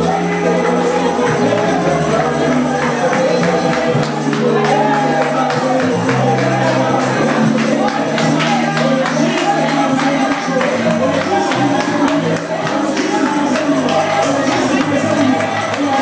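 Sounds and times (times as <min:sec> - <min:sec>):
gospel singing: 0:00.0 - 0:16.0
held bass notes: 0:00.0 - 0:16.0
percussion beat: 0:00.0 - 0:16.0
tambourine: 0:00.0 - 0:16.0.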